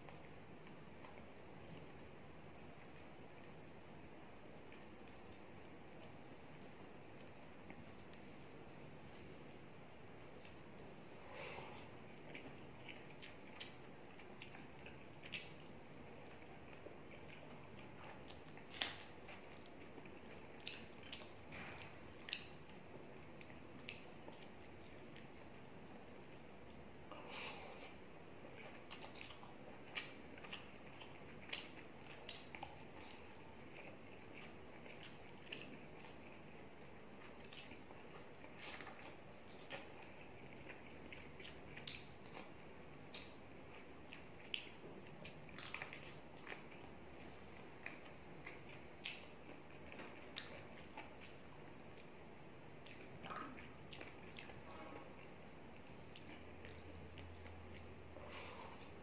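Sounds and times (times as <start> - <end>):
wet chewing: 10.3 - 52.2, 52.8 - 59.0.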